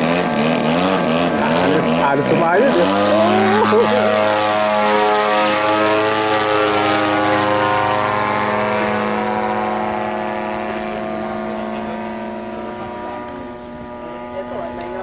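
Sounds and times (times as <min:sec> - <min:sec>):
model airplane engine flying past: 0:00.0 - 0:15.0.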